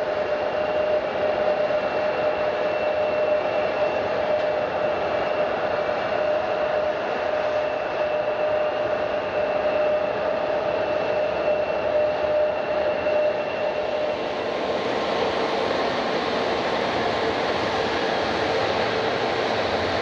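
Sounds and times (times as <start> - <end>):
jet engine whine: 0.0 - 20.0
jet engines rushing: 0.0 - 20.0.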